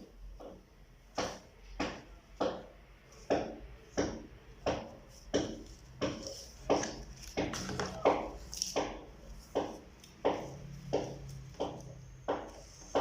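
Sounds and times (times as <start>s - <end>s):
regular sharp tool strokes: 0.0s - 13.0s.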